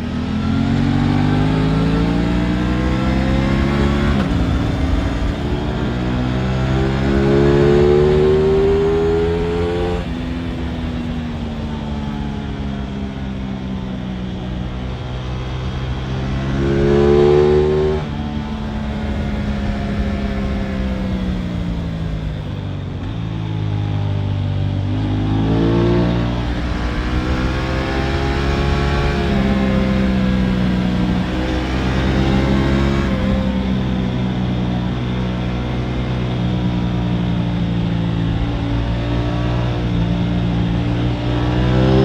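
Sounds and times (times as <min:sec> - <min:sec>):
motorcycle engine revving: 0:00.0 - 0:23.3, 0:24.1 - 0:42.0.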